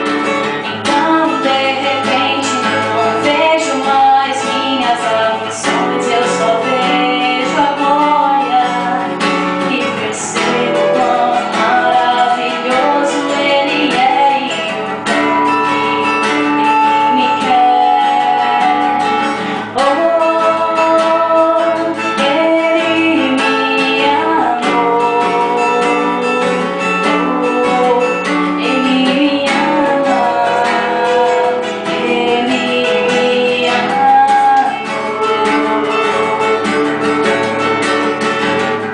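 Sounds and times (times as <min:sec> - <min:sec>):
person singing: 0:00.0 - 0:38.9
strummed acoustic guitar: 0:00.0 - 0:38.9.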